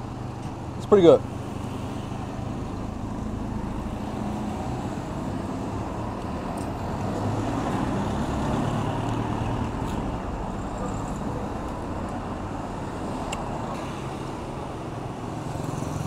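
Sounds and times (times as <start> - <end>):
cars and motor scooters passing: 0.0 - 16.0.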